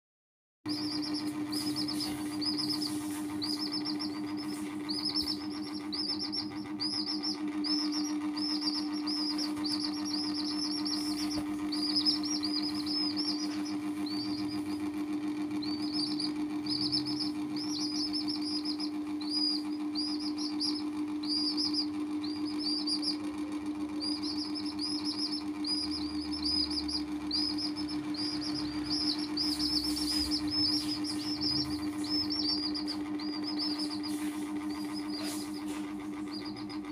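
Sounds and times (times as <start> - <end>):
baby chickens peeping: 0.7 - 36.9
steady low hum: 0.7 - 36.9.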